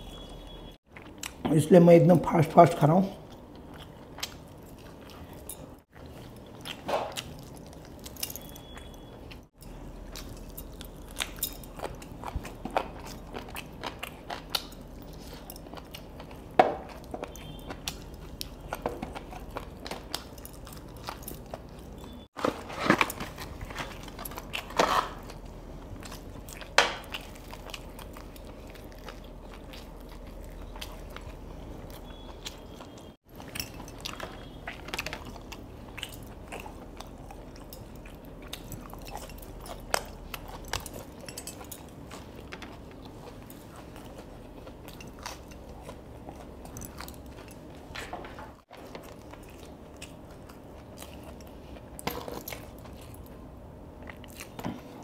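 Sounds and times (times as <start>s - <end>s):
chewing and crunching: 0.0s - 1.5s, 2.5s - 55.0s.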